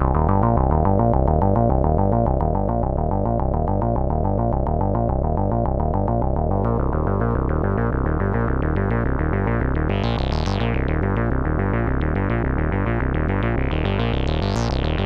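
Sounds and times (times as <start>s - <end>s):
pulsing synth bass line: 0.0s - 15.0s.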